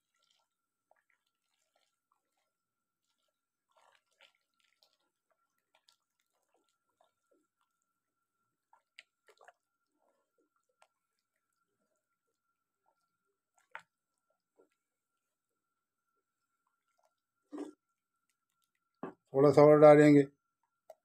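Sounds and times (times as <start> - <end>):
wet squelches and splashes: 0.0 - 14.8, 16.6 - 19.3.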